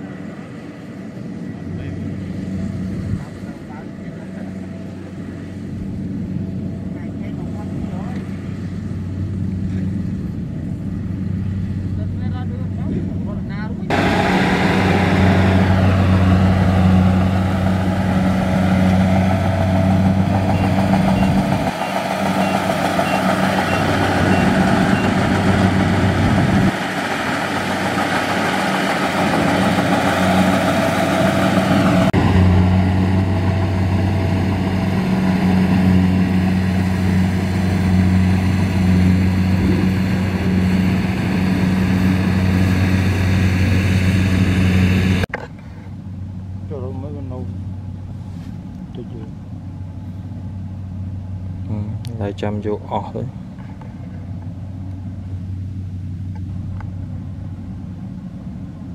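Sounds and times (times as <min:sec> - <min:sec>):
combine harvester engine hum: 0:00.0 - 0:58.9
dense machinery noise: 0:00.0 - 0:58.9.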